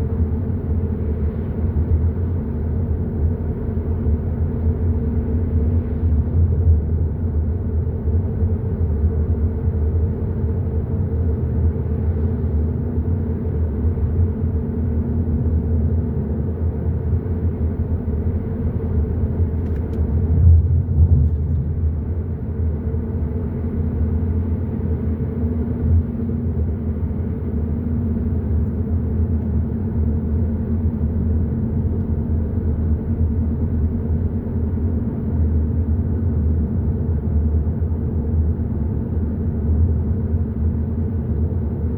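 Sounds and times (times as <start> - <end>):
car engine rumble: 0.0 - 41.9.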